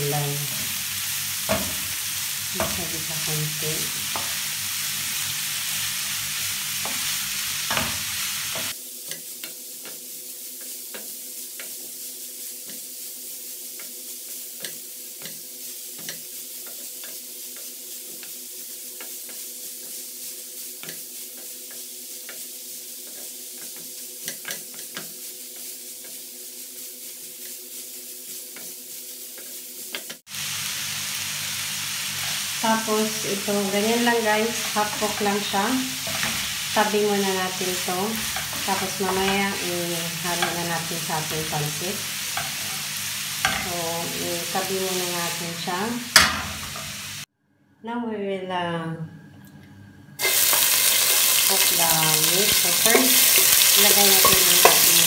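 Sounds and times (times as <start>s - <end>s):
vegetables sizzling in oil: 0.0s - 47.3s, 50.2s - 55.0s
wooden spatula scraping a pan: 2.6s - 30.3s, 32.1s - 47.2s, 50.2s - 55.0s.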